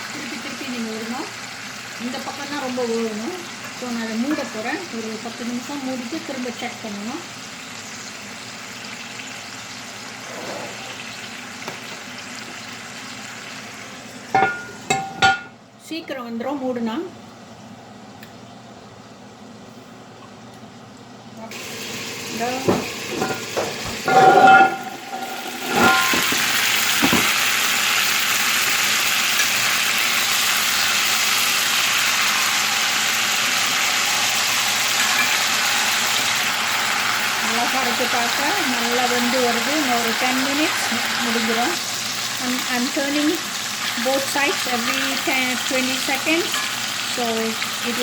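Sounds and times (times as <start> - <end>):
chicken sizzling in oil: 0.0 - 14.3, 21.5 - 48.0.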